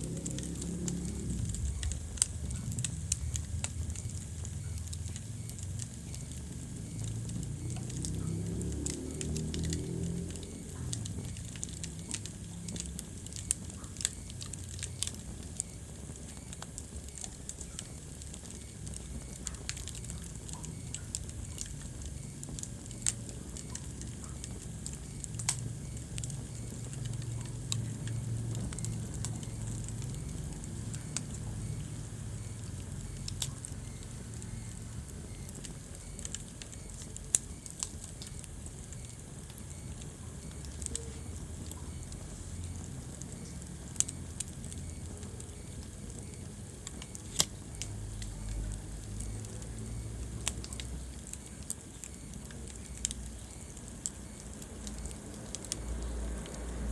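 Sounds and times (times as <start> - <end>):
sharp pops and snaps: 0.0 - 56.9
wood fire crackling: 0.0 - 56.9.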